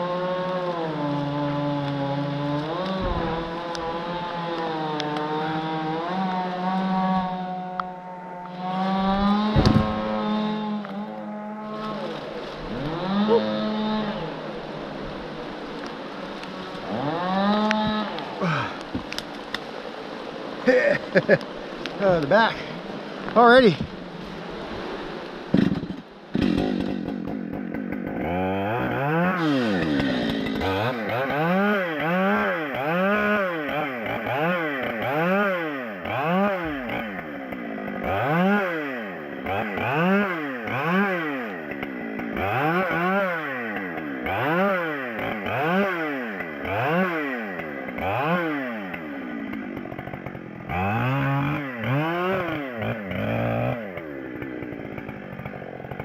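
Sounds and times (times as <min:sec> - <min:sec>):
chainsaw engine revving: 0:00.0 - 0:19.4, 0:24.8 - 0:56.0.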